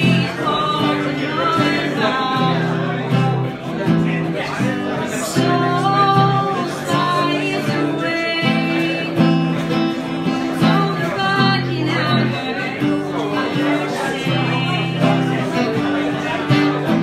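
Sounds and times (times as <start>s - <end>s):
person singing: 0.0s - 16.9s
acoustic guitar strumming: 0.0s - 17.0s.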